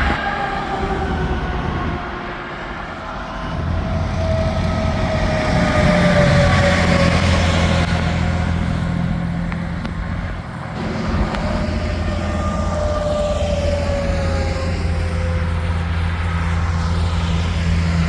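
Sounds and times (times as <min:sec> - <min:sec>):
heavy trucks passing: 0:00.0 - 0:18.0.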